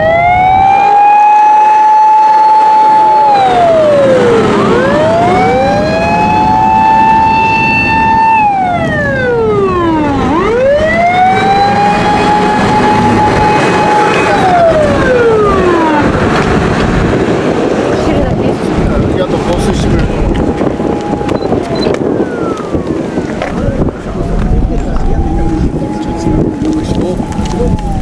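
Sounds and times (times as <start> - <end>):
fire truck siren wailing: 0.0 - 28.0
second faint siren: 0.0 - 28.0
low engine rumble: 3.2 - 28.0.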